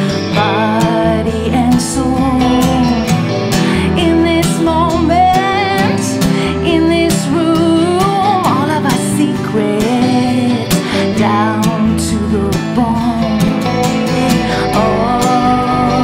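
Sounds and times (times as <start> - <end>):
strummed acoustic guitar: 0.0 - 16.0
woman singing: 0.0 - 16.0.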